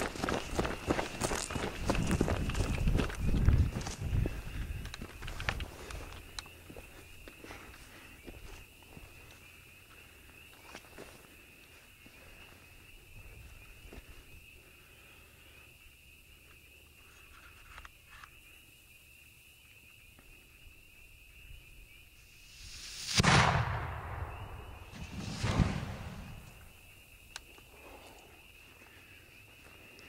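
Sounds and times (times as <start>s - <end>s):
insect trill: 0.0s - 23.2s, 23.9s - 30.0s.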